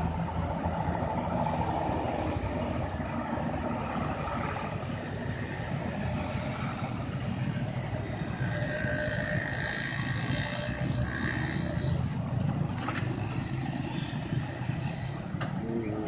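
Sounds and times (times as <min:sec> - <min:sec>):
car engines passing: 0:00.0 - 0:16.0
high-pitched whine: 0:00.0 - 0:16.0
motorcycle engines passing: 0:00.0 - 0:16.0.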